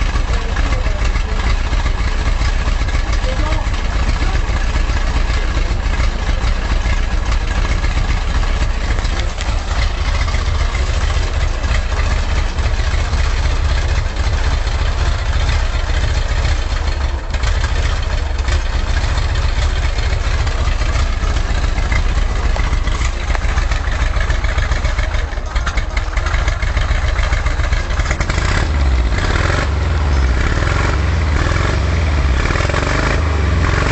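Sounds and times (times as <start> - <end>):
van engine idling: 0.0 - 33.9.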